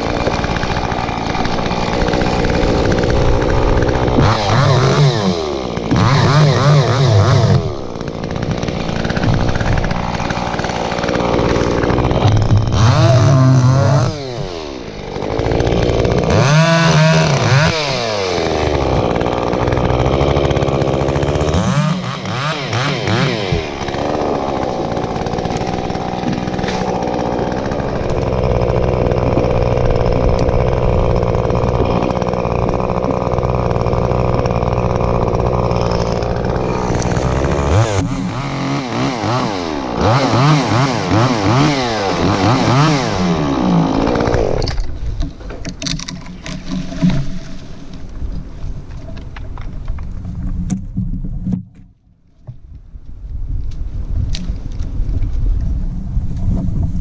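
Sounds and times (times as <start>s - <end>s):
chainsaw revving: 0.0s - 48.1s.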